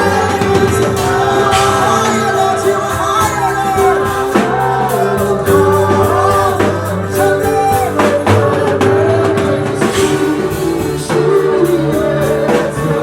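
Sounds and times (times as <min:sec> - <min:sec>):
gospel song with band: 0:00.0 - 0:13.0.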